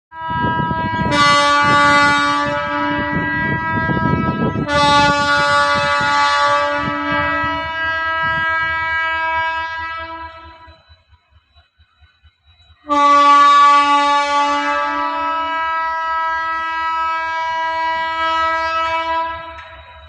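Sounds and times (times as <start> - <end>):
train air horn blasts: 0.1 - 10.9, 12.8 - 20.0
train rattling and clanking: 0.2 - 20.0.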